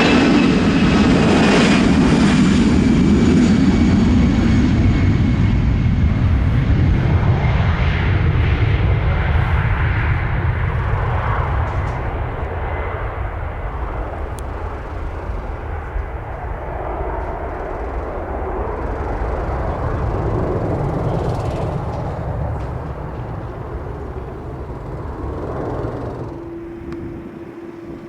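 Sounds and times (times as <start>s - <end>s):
jet engines roaring: 0.0s - 28.0s
wind rumble on microphone: 0.0s - 28.0s.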